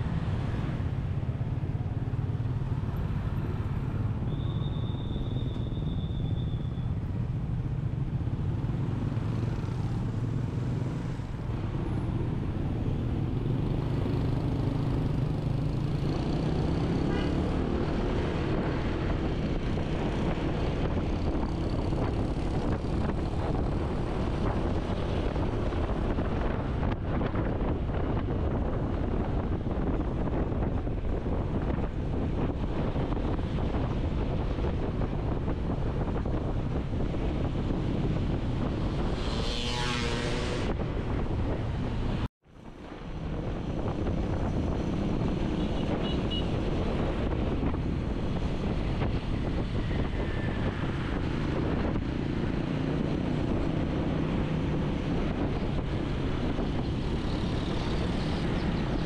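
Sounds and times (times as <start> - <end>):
traffic: 0.0 - 59.0.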